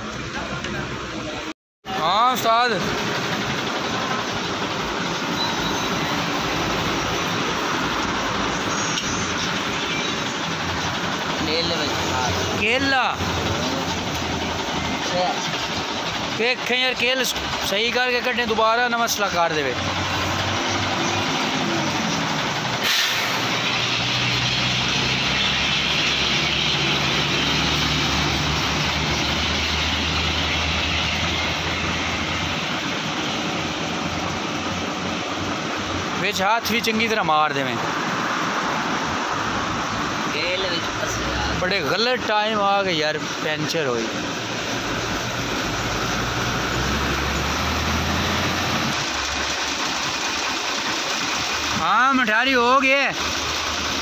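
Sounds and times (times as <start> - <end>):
engine humming: 0.0 - 54.0
traffic hiss: 0.0 - 54.0.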